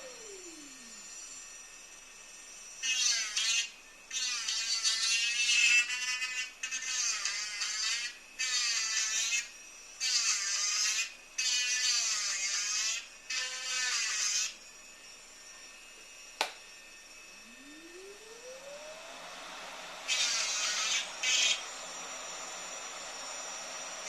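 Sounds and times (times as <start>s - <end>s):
rotary tool whining: 0.0s - 24.0s
small electric motor whine: 0.0s - 24.0s.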